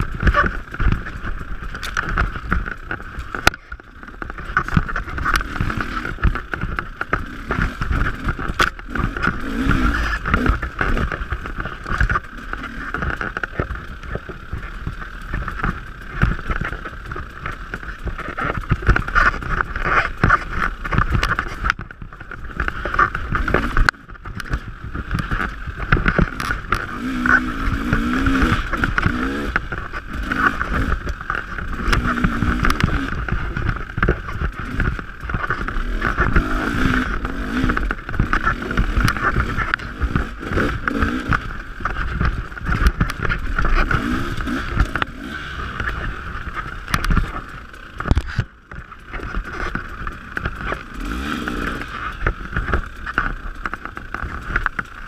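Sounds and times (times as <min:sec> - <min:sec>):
bike knocks and rattles: 0:00.0 - 0:55.0
dirt bike engine revving: 0:00.0 - 0:55.0.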